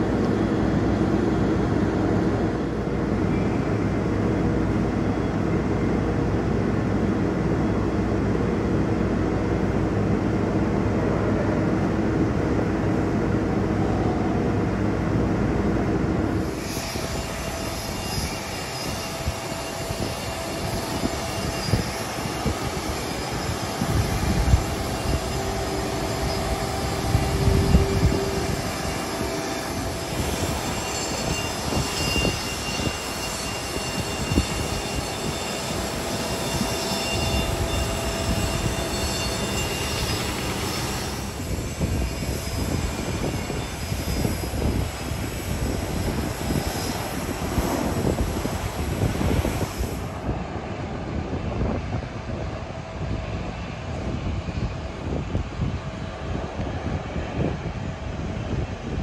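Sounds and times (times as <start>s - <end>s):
jet aircraft whine and hum: 0.0s - 59.0s.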